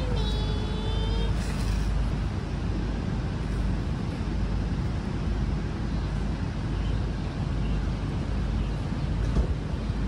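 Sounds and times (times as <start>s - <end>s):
rushing noise with low rumble: 0.0s - 10.0s.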